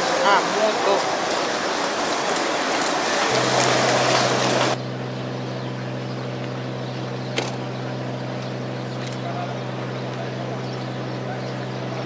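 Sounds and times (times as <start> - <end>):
ferry engines humming: 0.0 - 12.0.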